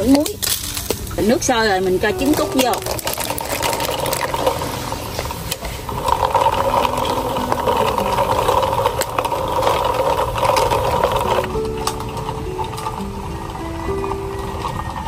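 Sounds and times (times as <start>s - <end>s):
water boiling in a pot: 0.0s - 15.0s.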